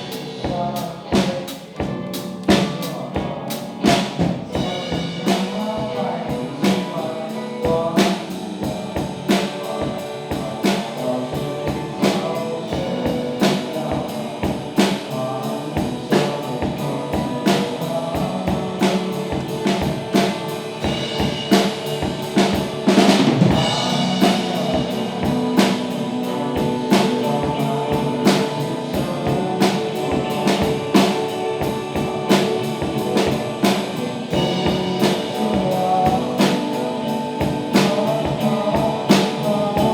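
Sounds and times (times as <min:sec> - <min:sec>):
live rock band: 0:00.0 - 0:39.9.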